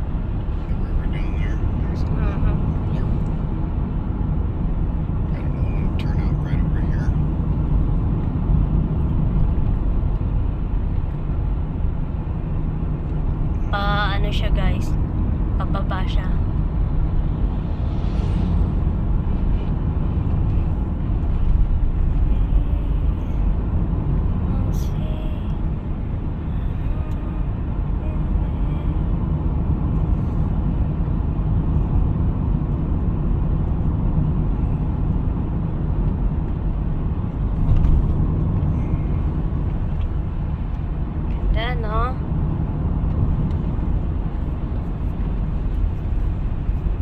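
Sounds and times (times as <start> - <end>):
car cabin road rumble: 0.0 - 47.0.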